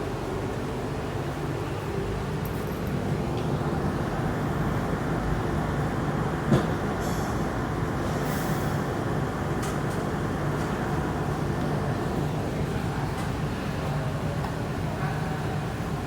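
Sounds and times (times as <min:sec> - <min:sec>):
people-mover rumble and hum: 0:00.0 - 0:16.0.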